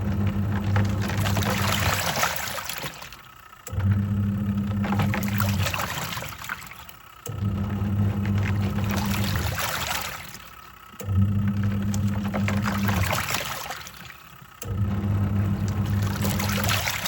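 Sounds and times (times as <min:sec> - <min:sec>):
washing machine motor humming: 0:00.0 - 0:17.0
water churning: 0:00.0 - 0:17.0.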